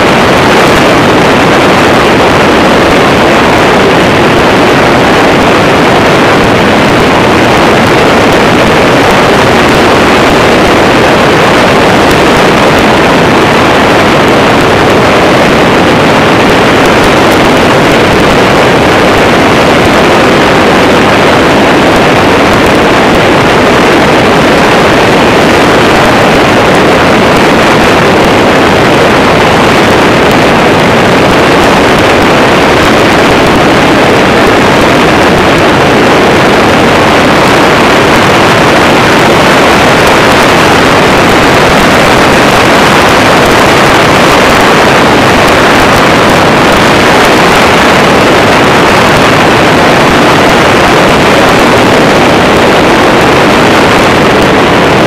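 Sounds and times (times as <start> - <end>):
wind noise on microphone: 0.0 - 55.0.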